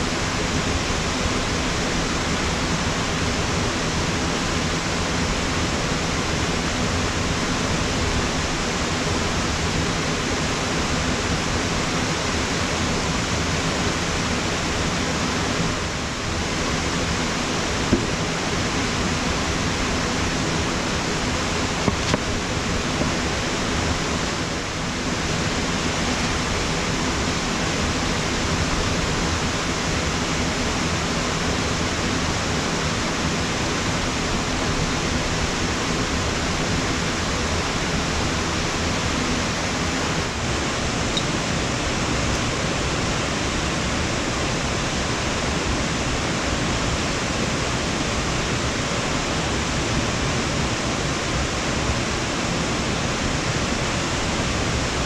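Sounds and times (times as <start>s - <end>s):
steady rushing noise: 0.0s - 55.0s.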